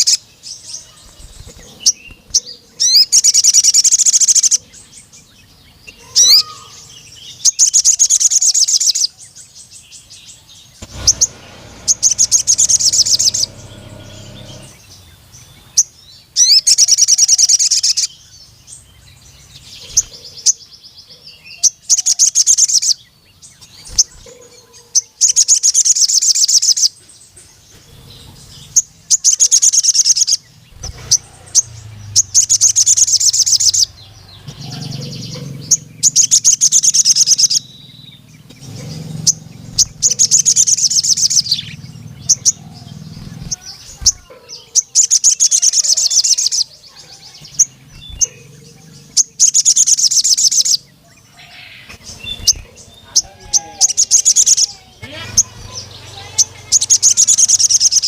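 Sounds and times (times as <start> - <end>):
bird chirps: 0.0 - 58.0
bird song of rapid high notes: 0.0 - 58.0.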